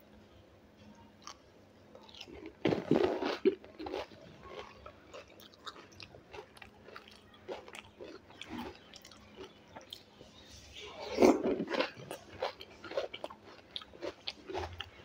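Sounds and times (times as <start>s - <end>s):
close chewing and lip smacks: 2.0s - 10.2s, 11.1s - 15.0s.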